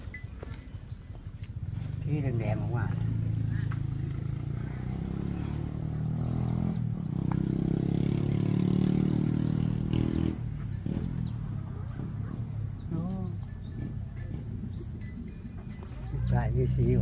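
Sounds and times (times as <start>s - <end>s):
birds chirping: 0.0s - 17.0s
motor engine running: 0.0s - 17.0s.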